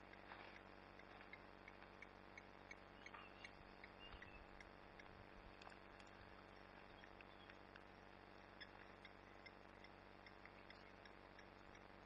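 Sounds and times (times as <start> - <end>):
faint chirps: 0.0 - 12.0
faint repeating tick: 0.0 - 12.0.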